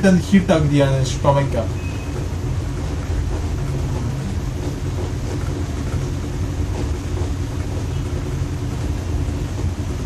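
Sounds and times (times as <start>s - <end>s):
air cooler fan running: 0.0s - 10.0s.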